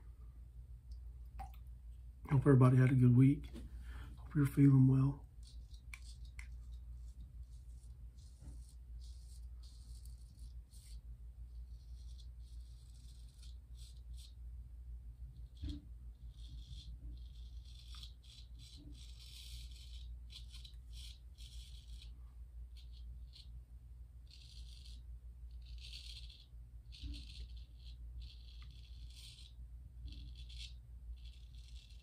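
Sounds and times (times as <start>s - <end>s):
razor scraping stubble: 4.3s - 14.4s, 15.3s - 23.6s, 24.2s - 32.0s.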